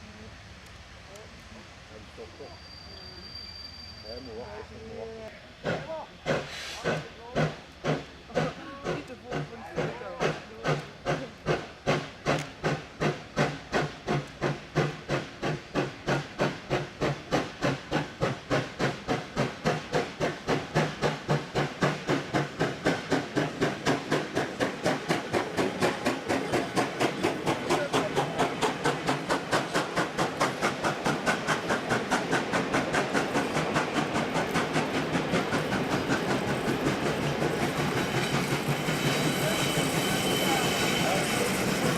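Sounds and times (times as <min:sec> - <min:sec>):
steam locomotive chuffing: 0:00.0 - 0:41.9.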